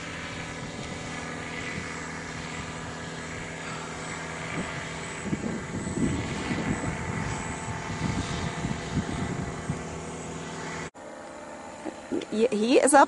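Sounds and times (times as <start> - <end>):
low rumbles: 0.0 - 10.9
engine and propeller droning: 0.0 - 13.0.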